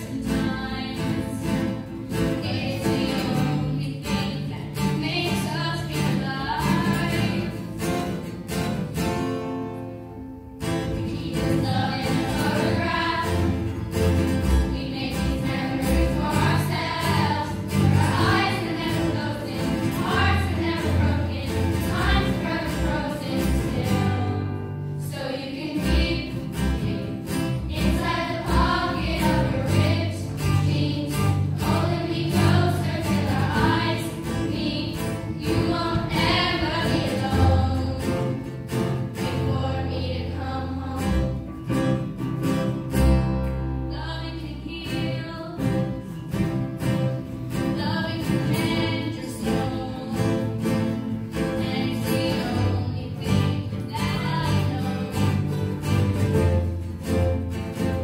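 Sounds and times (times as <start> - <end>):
choir of girls singing: 0.0 - 8.3, 10.8 - 41.5, 43.9 - 46.0, 47.7 - 56.2
acoustic guitars: 0.0 - 58.0.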